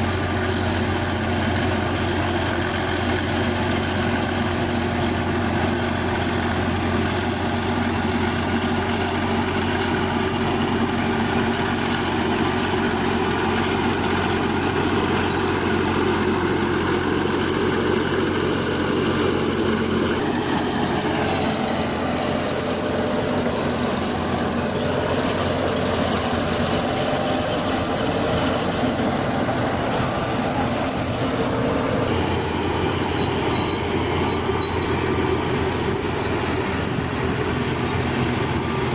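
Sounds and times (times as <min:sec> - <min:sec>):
bulldozer engine running: 0:00.0 - 0:38.9.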